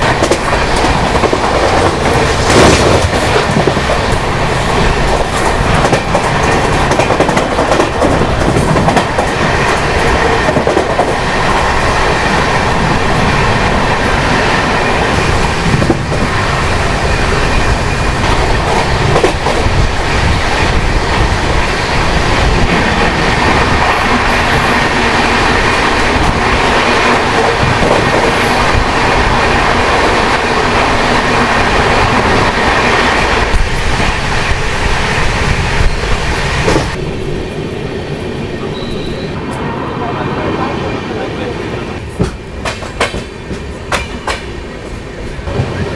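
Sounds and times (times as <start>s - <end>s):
passenger train rumbling at speed: 0.0s - 45.9s.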